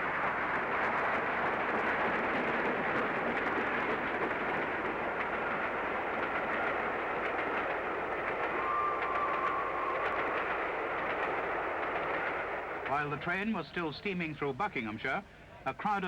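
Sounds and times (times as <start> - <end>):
steam train rushing: 0.0 - 16.0.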